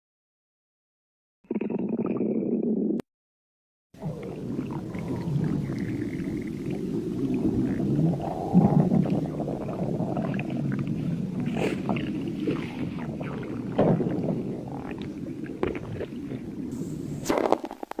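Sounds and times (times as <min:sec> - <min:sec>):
stomach growling: 0:01.5 - 0:03.0, 0:04.0 - 0:18.0.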